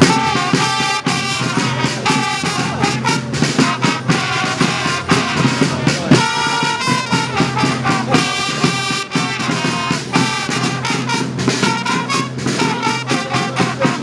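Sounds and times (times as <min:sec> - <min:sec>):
fanfare trumpets playing: 0:00.0 - 0:14.0
marching drums: 0:00.0 - 0:14.0.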